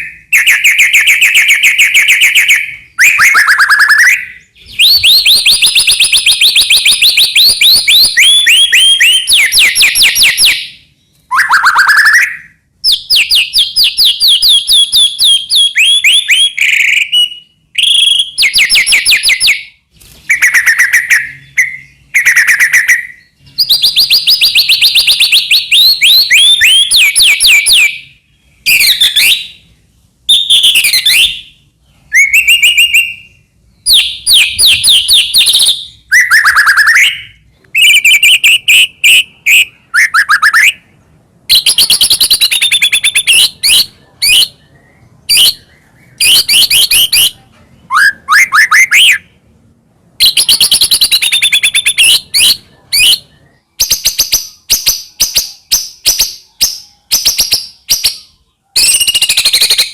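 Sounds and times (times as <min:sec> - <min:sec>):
songbird singing trills and whistles: 0:00.0 - 0:49.4, 0:50.2 - 0:59.9.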